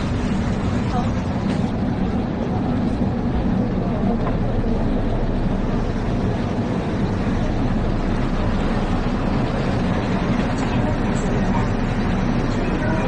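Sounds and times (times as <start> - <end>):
subway train low rumble: 0.0 - 13.0.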